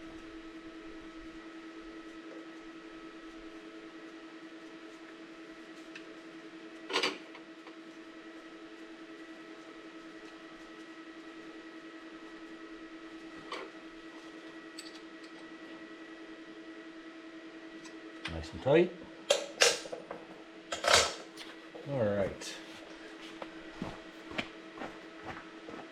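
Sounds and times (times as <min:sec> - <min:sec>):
steady hum: 0:00.0 - 0:25.9.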